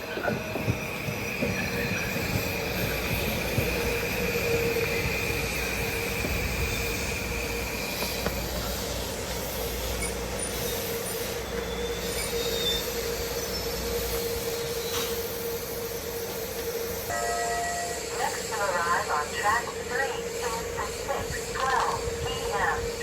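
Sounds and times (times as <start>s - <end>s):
train rolling noise: 0.0s - 23.0s
train wheel squeal: 0.0s - 23.0s.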